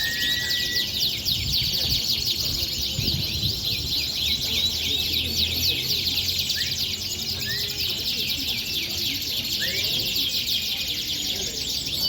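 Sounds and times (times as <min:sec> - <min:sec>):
canaries singing: 0:00.0 - 0:12.0.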